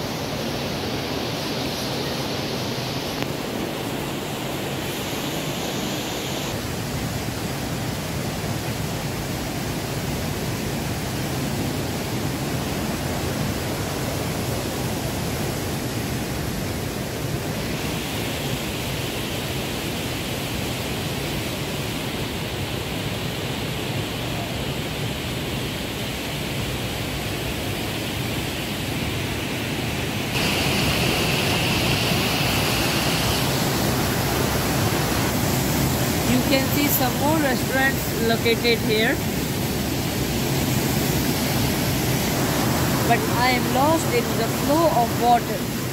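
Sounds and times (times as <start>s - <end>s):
waterfall rushing: 0.0s - 22.3s, 23.0s - 45.9s.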